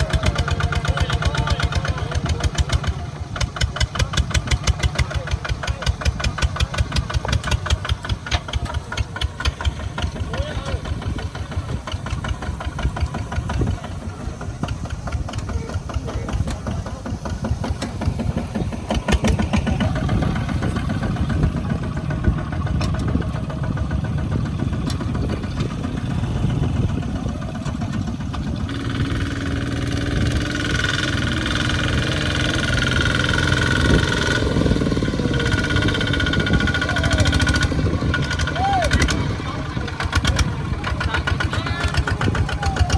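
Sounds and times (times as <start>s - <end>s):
tractor engine knocking: 0.0s - 42.9s.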